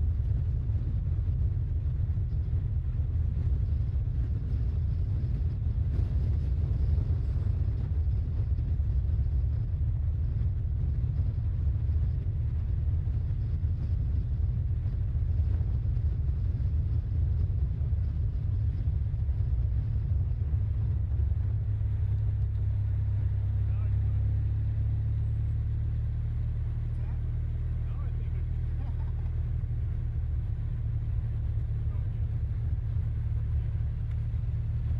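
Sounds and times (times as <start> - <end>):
low hum: 0.0 - 34.9
wind and road noise: 0.0 - 34.9.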